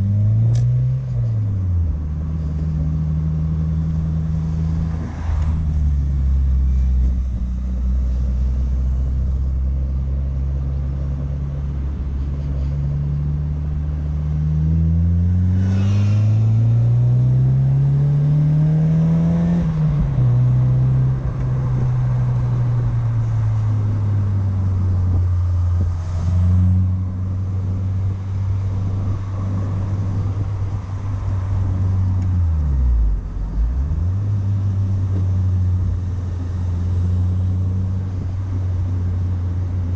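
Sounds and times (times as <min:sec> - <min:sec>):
car engine while driving: 0:00.0 - 0:39.9.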